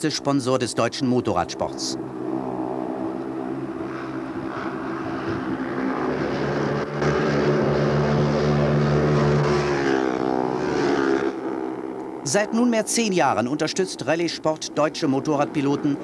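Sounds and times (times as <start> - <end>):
motorcycle engines buzzing: 0.0 - 16.0.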